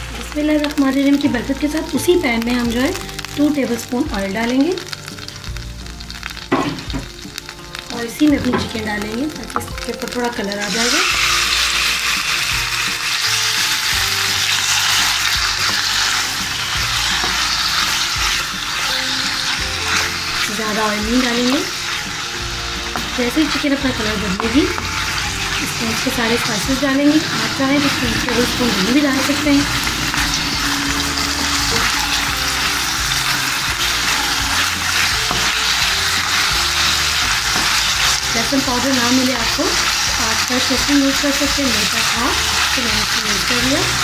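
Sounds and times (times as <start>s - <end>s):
chicken sizzling in hot oil: 0.0s - 44.0s.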